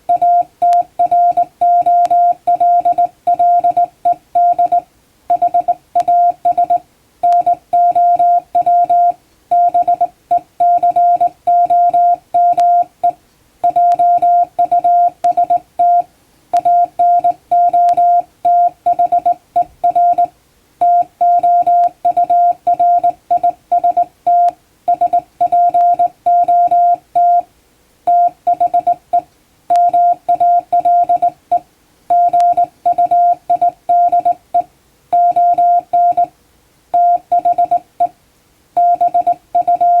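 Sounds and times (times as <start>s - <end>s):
morse code beeps: 0.0s - 27.5s, 28.1s - 36.3s, 37.0s - 38.2s, 38.8s - 40.0s.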